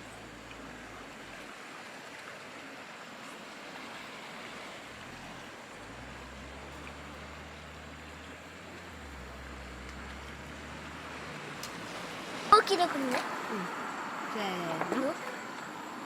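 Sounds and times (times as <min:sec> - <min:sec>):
sea surf on rocky shore: 0:00.0 - 0:16.0.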